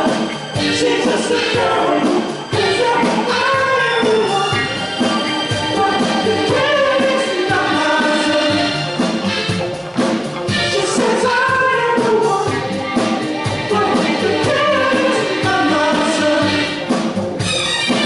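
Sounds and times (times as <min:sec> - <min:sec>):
male vocal group singing: 0:00.0 - 0:09.1, 0:10.6 - 0:17.0
soul band playing: 0:00.0 - 0:18.0.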